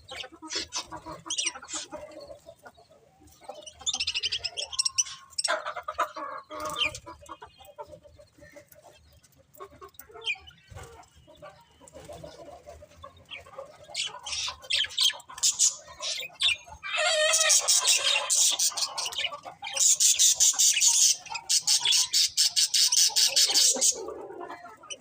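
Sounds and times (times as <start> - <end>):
budgerigars chirping and warbling: 0.0 - 25.0.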